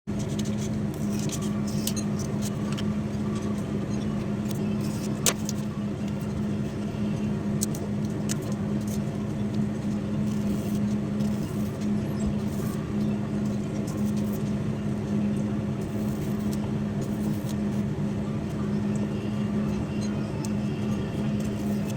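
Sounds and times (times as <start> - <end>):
steady mechanical hum: 0.0 - 21.9.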